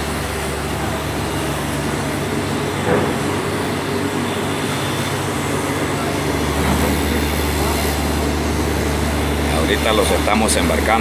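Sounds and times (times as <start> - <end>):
deeper engine hum: 0.0 - 11.0
diesel engines droning: 0.0 - 11.0.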